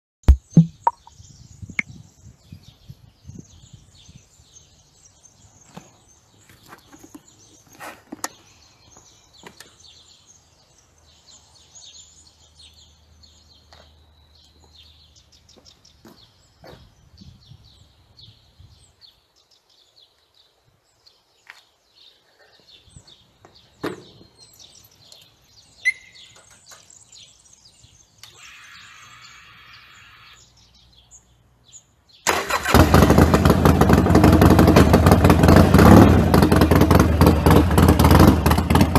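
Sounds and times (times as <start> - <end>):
birds chirping: 0.2 - 32.7.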